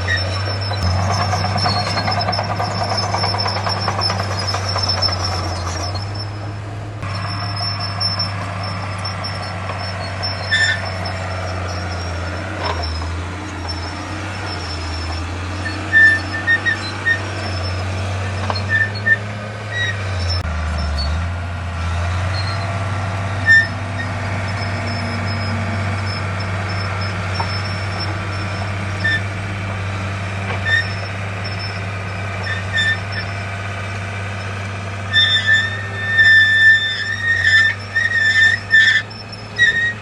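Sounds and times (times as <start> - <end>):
short high-pitched squeaks: 0.0 - 6.4, 7.0 - 21.2, 22.3 - 29.4, 30.5 - 33.4, 34.4 - 40.0
heavy diesel machinery running: 0.0 - 40.0.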